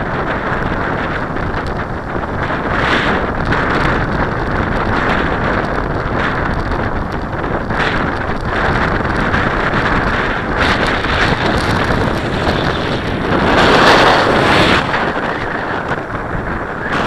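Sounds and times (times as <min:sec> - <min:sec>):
gusting wind buffeting microphone: 0:00.0 - 0:17.0.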